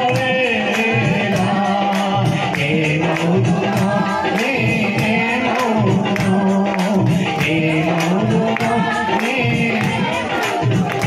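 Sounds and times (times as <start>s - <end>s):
man singing into microphone: 0.0s - 11.0s
steady percussion beat: 0.0s - 11.0s.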